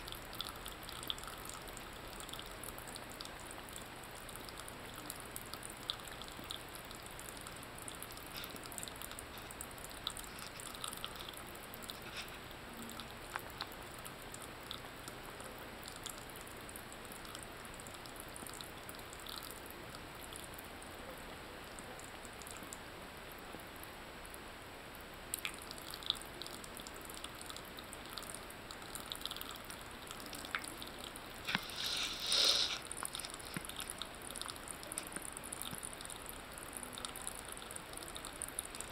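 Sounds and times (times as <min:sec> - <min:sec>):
cat lapping water: 0:00.0 - 0:21.0, 0:25.4 - 0:38.9
water drips ticking: 0:00.0 - 0:21.0, 0:21.6 - 0:32.0, 0:32.7 - 0:38.9.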